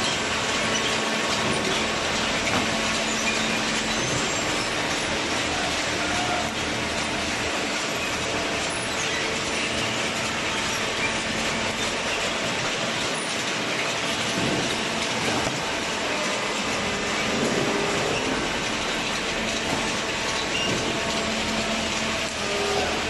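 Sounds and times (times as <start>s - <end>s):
baler machine running: 0.0s - 23.0s.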